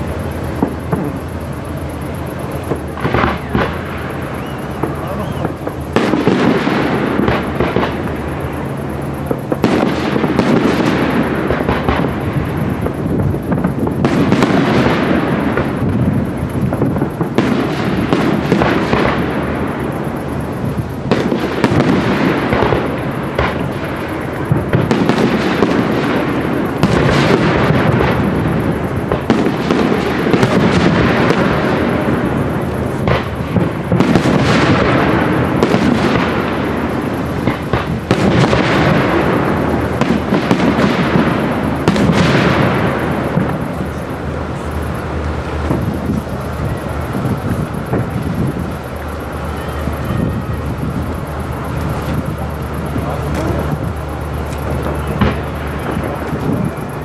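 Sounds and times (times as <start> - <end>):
firework shells bursting: 0.0 - 57.0.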